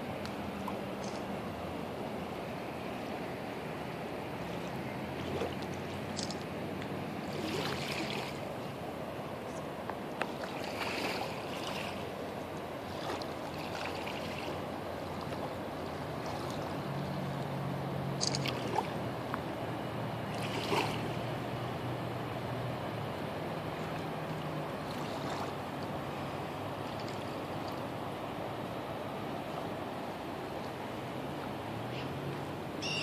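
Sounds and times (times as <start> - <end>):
river rushing: 0.0 - 33.0.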